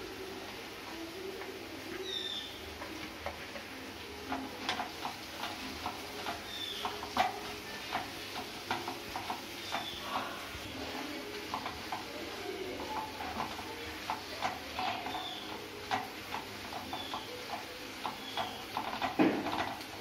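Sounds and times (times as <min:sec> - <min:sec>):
light frying sizzle: 0:00.0 - 0:20.0
wooden spatula tapping pan: 0:02.7 - 0:20.0.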